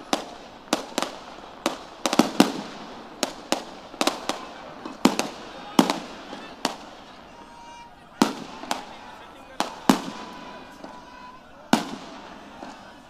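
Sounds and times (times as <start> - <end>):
firecrackers banging: 0.0 - 13.0.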